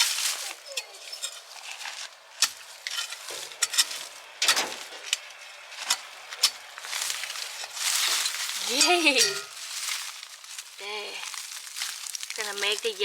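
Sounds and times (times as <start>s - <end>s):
rustling leaves and soil: 0.0s - 13.0s.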